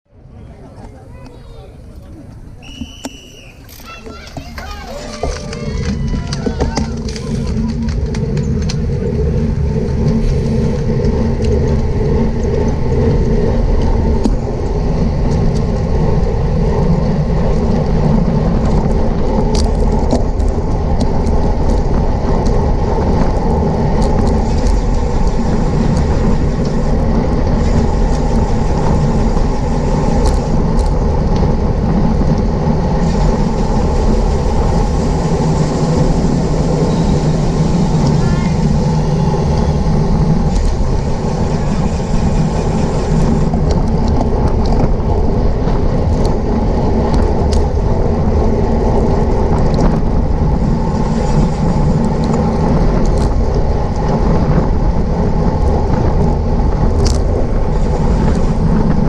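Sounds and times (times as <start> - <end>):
faint tyre hum: 0.1 - 59.0
wind rush on microphone: 0.1 - 59.0.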